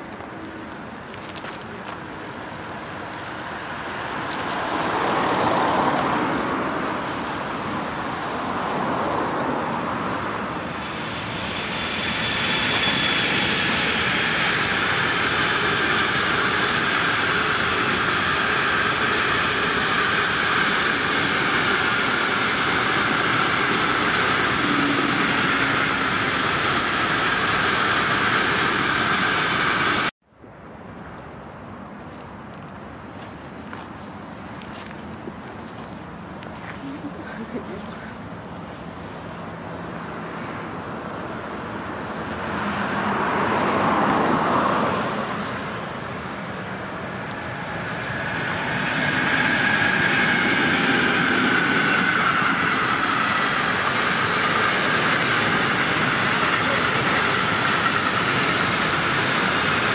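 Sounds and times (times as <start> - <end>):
freight train rumbling past: 0.0 - 30.1, 36.0 - 59.9
road traffic: 0.0 - 59.9.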